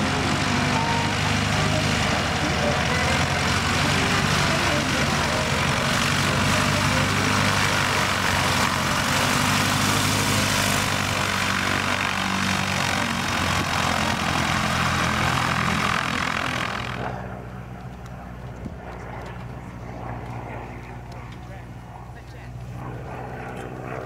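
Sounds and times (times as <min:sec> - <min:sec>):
biplane engine: 0:00.0 - 0:24.0
propeller noise: 0:00.0 - 0:24.0.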